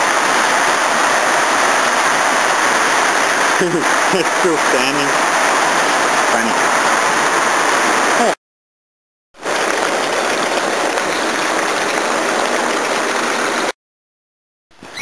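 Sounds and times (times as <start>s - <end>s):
water gushing from downpipe: 0.0s - 8.4s, 9.4s - 13.8s.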